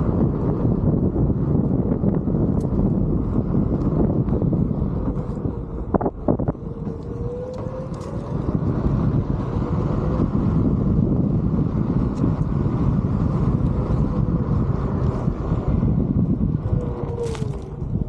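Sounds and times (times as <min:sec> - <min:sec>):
wheel rolling over asphalt: 0:00.0 - 0:18.0
wind buffeting microphone: 0:00.0 - 0:18.0.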